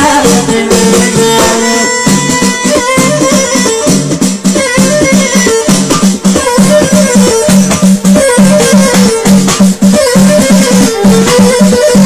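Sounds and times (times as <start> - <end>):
hand-beaten frame drums: 0.0 - 12.0.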